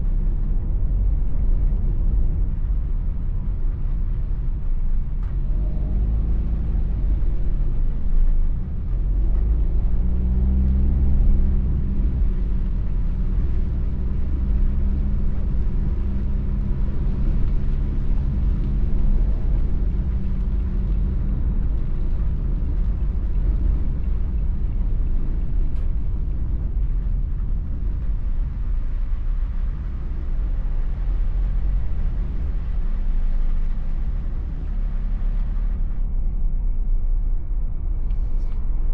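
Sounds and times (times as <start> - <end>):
hiss of rain on wet road: 0.0 - 36.0
car engine hum: 0.0 - 38.9.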